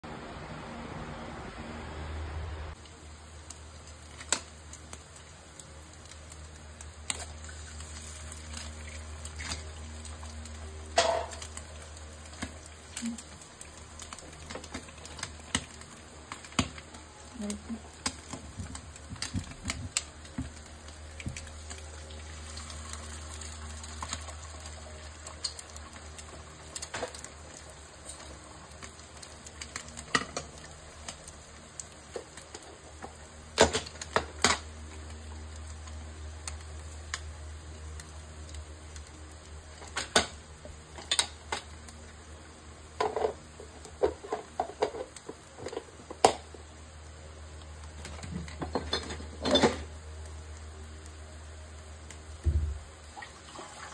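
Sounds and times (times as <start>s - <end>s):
low steady hum: 0.0s - 53.9s
food sizzling in a pan: 2.8s - 53.9s.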